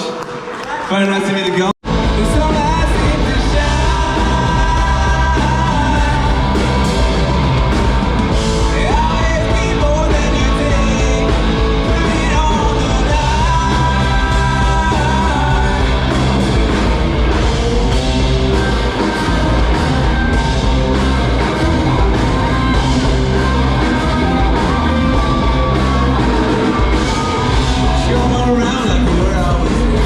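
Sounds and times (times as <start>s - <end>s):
rock band playing live: 1.8s - 30.0s
singer holding long notes: 2.0s - 30.0s.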